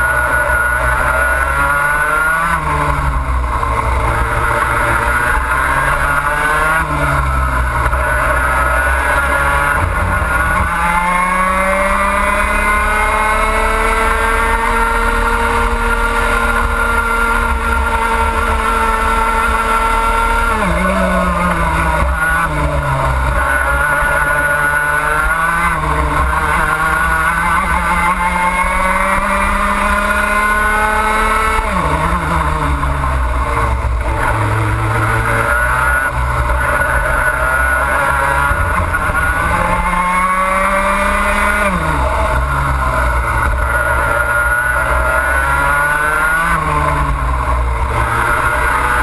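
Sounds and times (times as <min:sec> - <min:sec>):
kart engine revving: 0:00.0 - 0:49.0.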